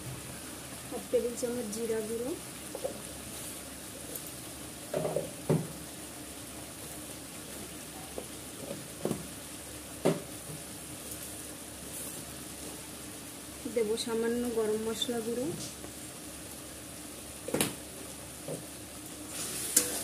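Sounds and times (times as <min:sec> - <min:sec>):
spices sizzling in oil: 0:00.0 - 0:20.0.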